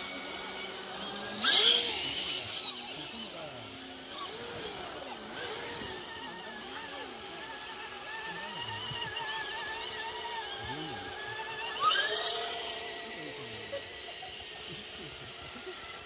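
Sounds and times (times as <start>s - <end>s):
electric motor and gearbox whine: 0.0s - 16.0s.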